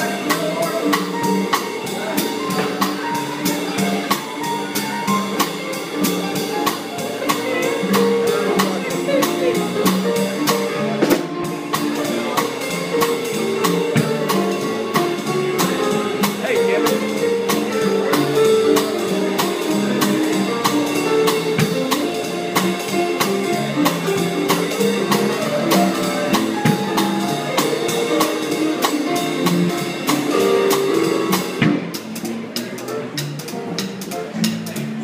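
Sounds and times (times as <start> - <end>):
jazz band playing swing: 0.0 - 35.0
steady cymbal beat: 0.0 - 35.0.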